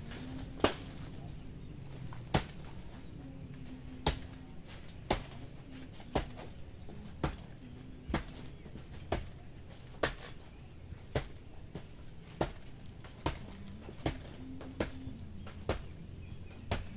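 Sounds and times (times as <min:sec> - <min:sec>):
blade chopping plant trunk: 0:00.1 - 0:02.8, 0:03.8 - 0:16.9.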